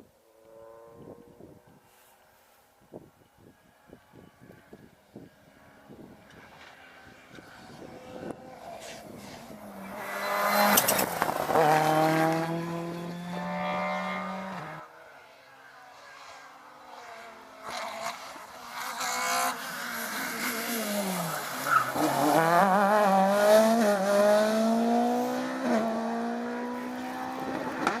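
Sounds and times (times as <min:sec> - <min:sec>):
rally car engine at full throttle: 0:04.4 - 0:28.0.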